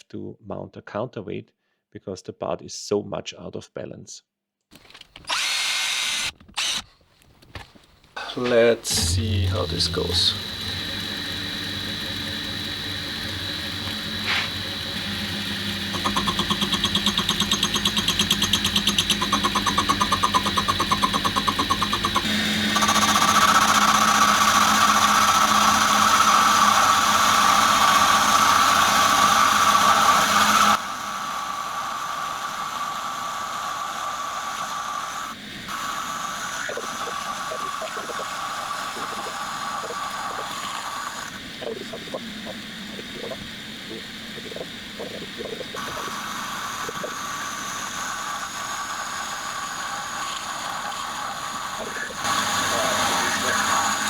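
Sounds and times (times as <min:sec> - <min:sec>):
metal lathe running: 0:05.3 - 0:06.8, 0:08.4 - 0:34.1, 0:35.1 - 0:54.0
lathe cutting with ringing tone: 0:08.4 - 0:54.0.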